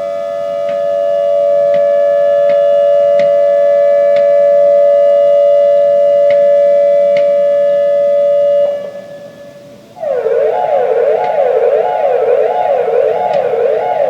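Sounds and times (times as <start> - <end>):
siren wail sweeping up and down: 0.0 - 14.0
warning siren steady tone: 0.0 - 14.0.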